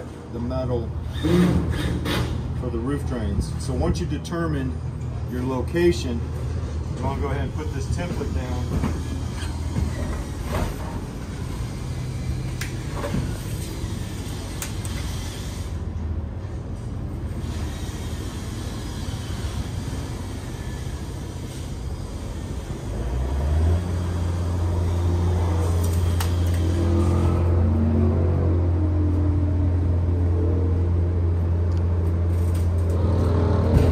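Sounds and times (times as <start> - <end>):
low mechanical hum: 0.0 - 33.9.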